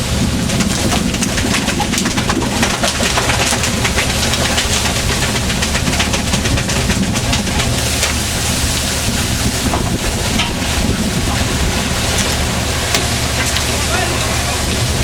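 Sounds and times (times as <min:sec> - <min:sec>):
boat engine running: 0:00.0 - 0:15.0
rush of wind and water: 0:00.0 - 0:15.0
water splashes: 0:00.0 - 0:15.0.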